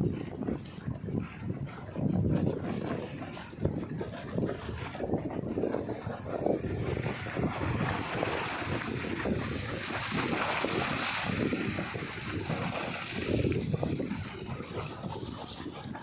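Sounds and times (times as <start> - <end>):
waves splashing against embankment: 0.0 - 16.0
wind buffeting microphone: 0.0 - 16.0.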